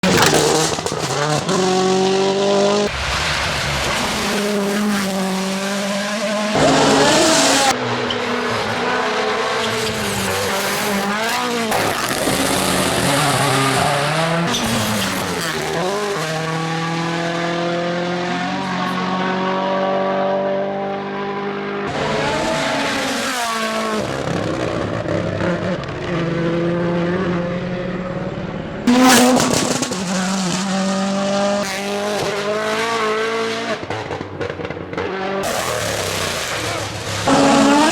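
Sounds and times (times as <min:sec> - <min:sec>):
rally car engines revving: 0:00.0 - 0:37.9.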